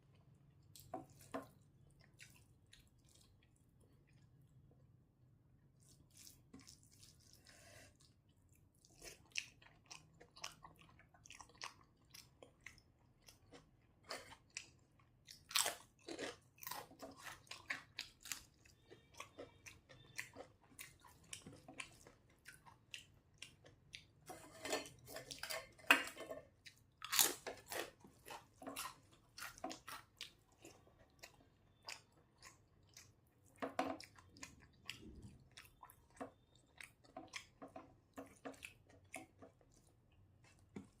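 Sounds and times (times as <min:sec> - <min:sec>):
chewing with crisp crunching: 0:00.0 - 0:04.7, 0:05.7 - 0:41.0.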